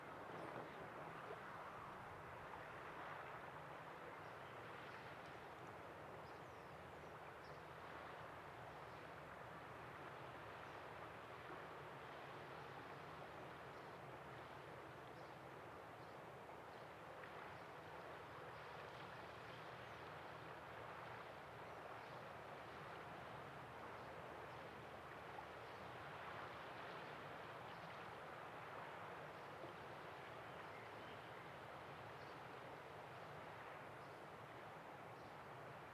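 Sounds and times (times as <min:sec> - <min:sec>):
faint outdoor ambience: 0:00.0 - 0:35.9.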